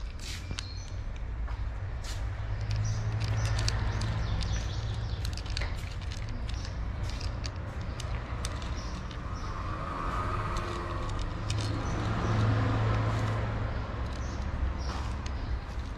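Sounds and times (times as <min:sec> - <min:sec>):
cats crunching dry kibble: 0:02.5 - 0:15.9.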